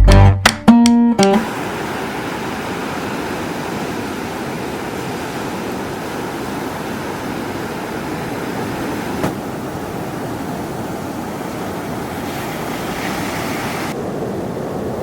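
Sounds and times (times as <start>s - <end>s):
water rushing: 1.4s - 15.0s.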